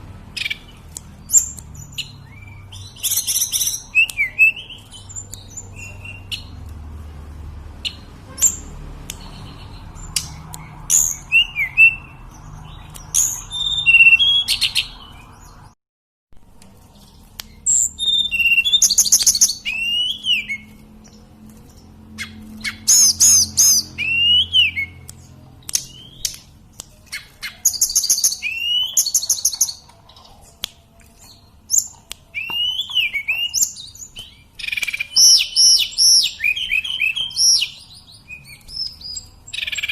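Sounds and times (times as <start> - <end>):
songbird whistling song: 0.3 - 6.6, 7.8 - 15.7, 17.0 - 39.9.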